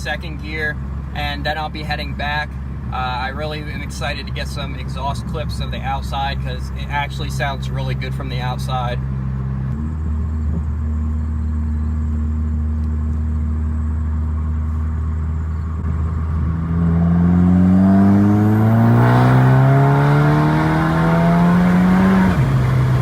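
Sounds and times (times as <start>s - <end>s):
turbocharged car engine revving: 0.0s - 23.0s.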